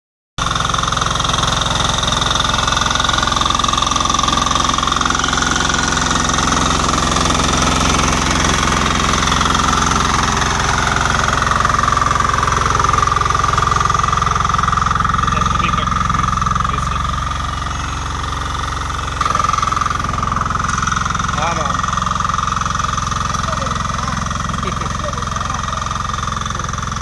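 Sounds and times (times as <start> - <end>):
diesel engine clattering: 0.4 - 27.0.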